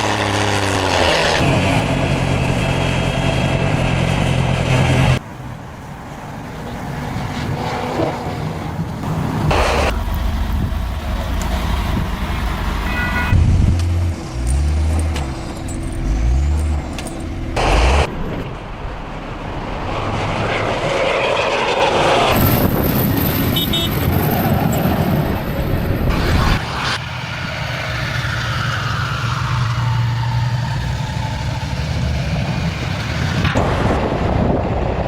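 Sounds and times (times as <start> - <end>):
heavy vehicle engines running: 0.0 - 35.0.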